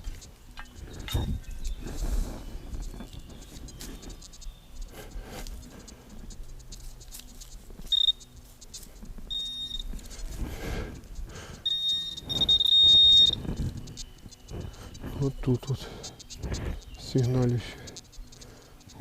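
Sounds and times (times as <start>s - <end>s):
metal detector beeping: 0.0s - 19.0s.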